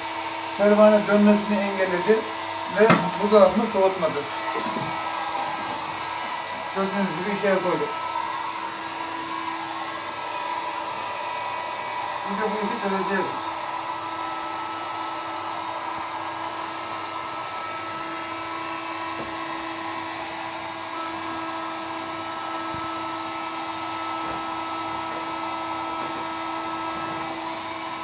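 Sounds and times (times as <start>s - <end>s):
hair dryer humming: 0.0s - 28.0s.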